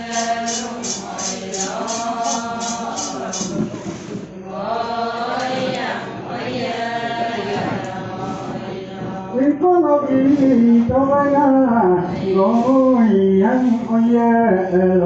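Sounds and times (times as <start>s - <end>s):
single louder voice singing: 0.0s - 15.0s
women singing a chant: 0.0s - 15.0s.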